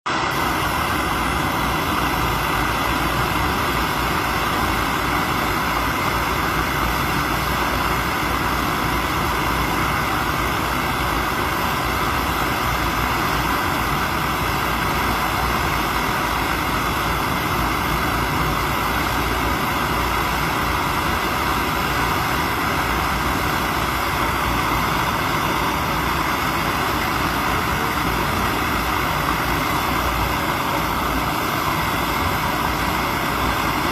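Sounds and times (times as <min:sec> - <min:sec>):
steady machine drone: 0:00.1 - 0:33.9.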